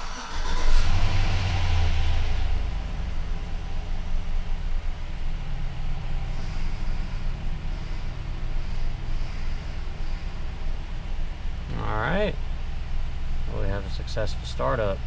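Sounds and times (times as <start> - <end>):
car engine starting and idling: 0.0 - 15.0.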